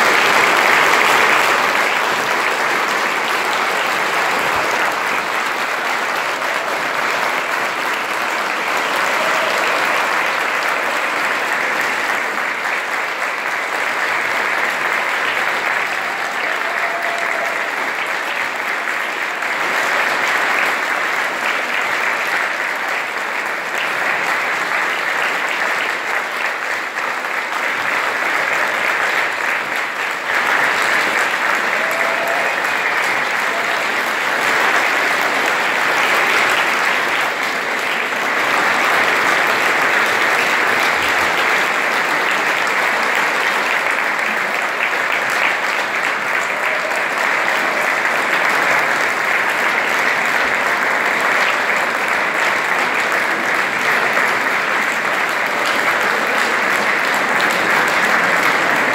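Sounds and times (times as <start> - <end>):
large audience applauding: 0.0 - 58.9.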